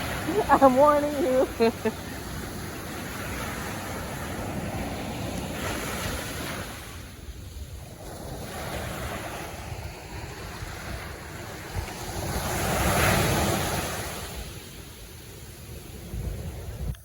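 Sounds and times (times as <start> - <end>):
ocean surf washing ashore: 0.0 - 17.0
wind buffeting microphone: 0.0 - 17.0.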